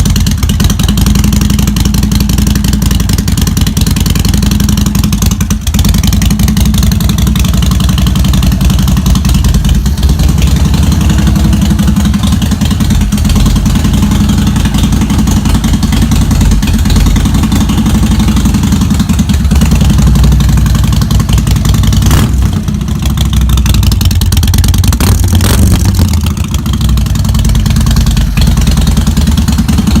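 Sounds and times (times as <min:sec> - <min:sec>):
motorcycle engine idling loudly: 0:00.0 - 0:30.0.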